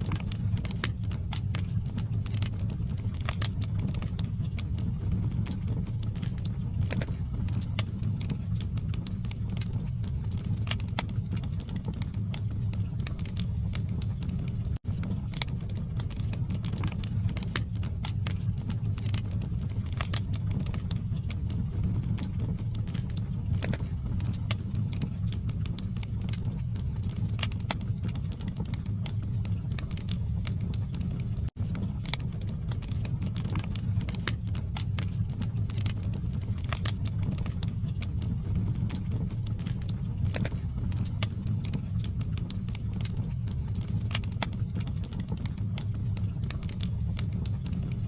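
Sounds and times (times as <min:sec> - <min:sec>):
fire crackling and popping: 0:00.0 - 0:48.0.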